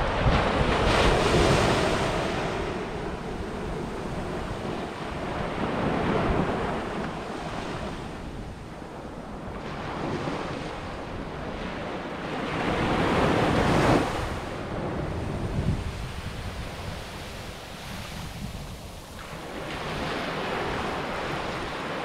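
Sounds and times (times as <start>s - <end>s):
surf breaking on a beach: 0.0s - 22.0s.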